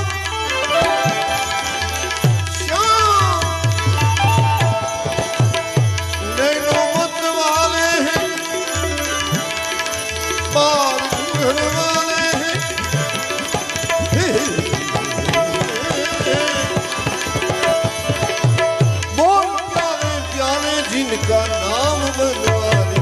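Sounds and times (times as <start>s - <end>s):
tabla playing a busy rhythm: 0.0s - 23.0s.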